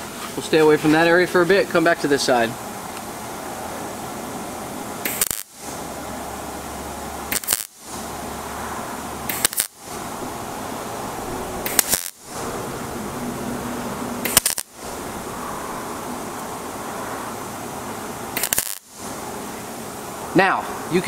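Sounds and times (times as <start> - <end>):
welder arc bursts: 1.8 - 21.0.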